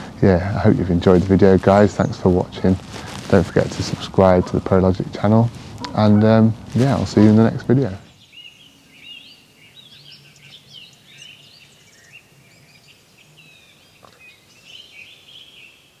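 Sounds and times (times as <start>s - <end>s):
small birds singing: 0.0s - 16.0s
soft outdoor background noise: 0.0s - 16.0s.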